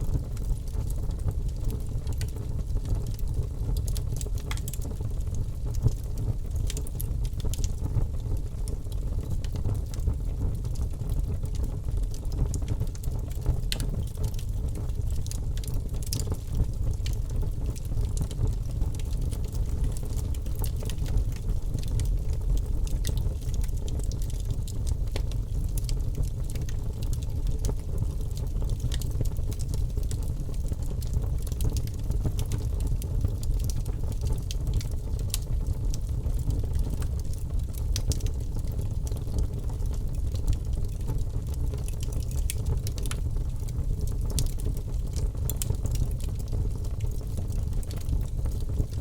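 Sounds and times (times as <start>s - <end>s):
low rumble of fire: 0.0s - 49.0s
logs crackling and popping: 0.1s - 49.0s.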